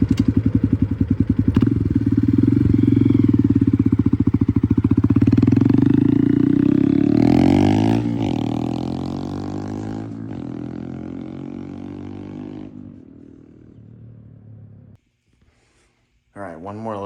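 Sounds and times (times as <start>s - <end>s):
motorcycle engine running loud: 0.0s - 14.9s.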